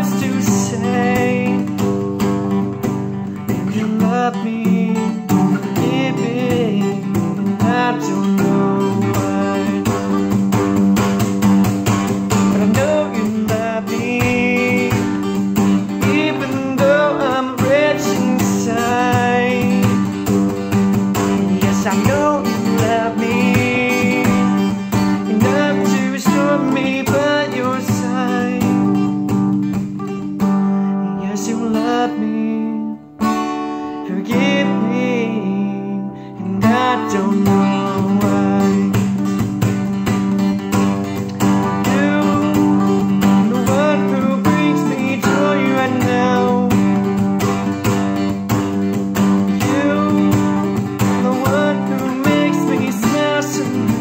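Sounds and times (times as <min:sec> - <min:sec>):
man singing: 0:00.0 - 0:33.2, 0:33.9 - 0:54.0
acoustic guitar strumming: 0:00.0 - 0:54.0.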